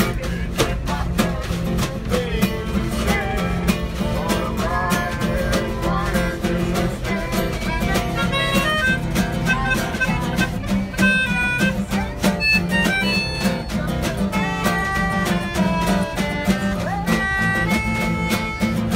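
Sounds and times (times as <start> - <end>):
strummed acoustic guitar: 0.0 - 18.9
lead melody line: 3.0 - 18.9.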